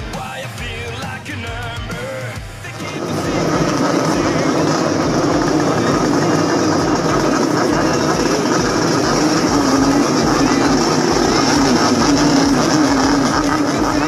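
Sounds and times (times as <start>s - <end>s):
motorcycles revving: 1.9s - 14.0s.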